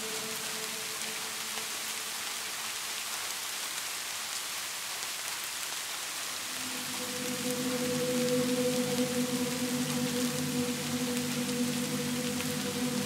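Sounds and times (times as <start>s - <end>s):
faint raindrop ticks: 0.0s - 13.0s
steady rain hiss: 0.0s - 13.0s.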